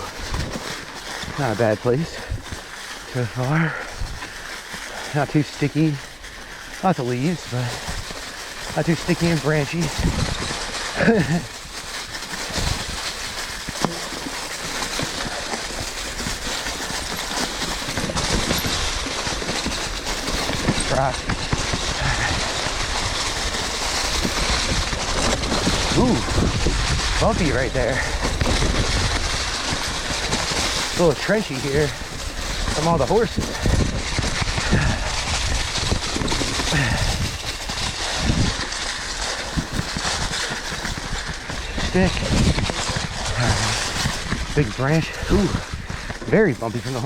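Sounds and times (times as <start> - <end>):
bike rattling over bumps: 0.0 - 47.0
tyres crunching through dry leaves: 0.0 - 47.0.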